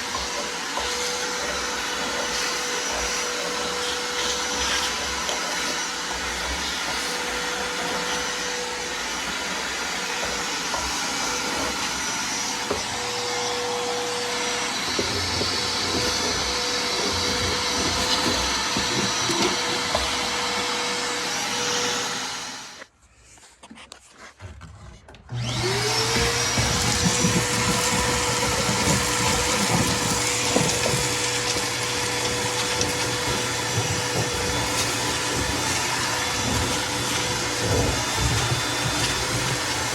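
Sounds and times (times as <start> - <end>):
vacuum cleaner whining: 0.0 - 22.9, 25.2 - 39.9.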